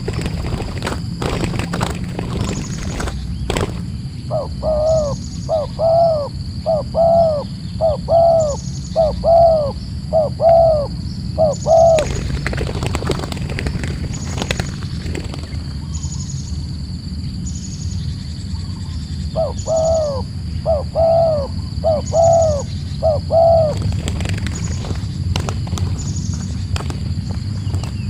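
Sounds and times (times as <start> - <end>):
dove cooing: 0.0 - 16.0, 19.3 - 28.0
steady low rumble: 0.0 - 28.0.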